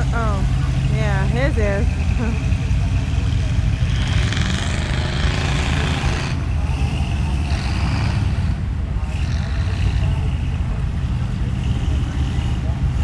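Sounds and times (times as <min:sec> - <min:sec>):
truck churning through mud: 0:00.0 - 0:13.0
truck engine rumbling: 0:00.0 - 0:13.0.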